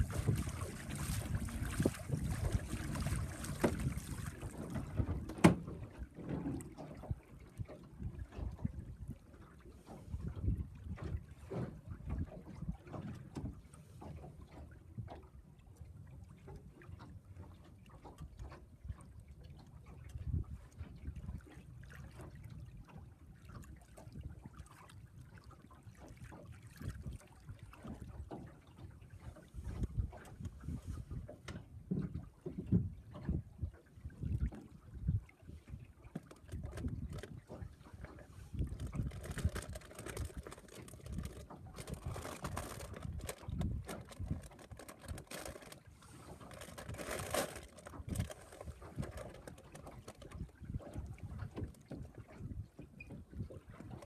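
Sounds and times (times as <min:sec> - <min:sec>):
wind rumble on microphone: 0:00.0 - 0:15.4, 0:16.1 - 0:54.0
waves lapping against boat hull: 0:00.0 - 0:54.0.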